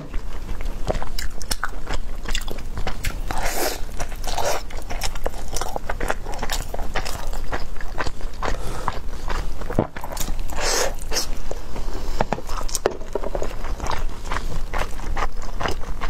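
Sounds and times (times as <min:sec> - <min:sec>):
close chewing: 0:00.0 - 0:16.0.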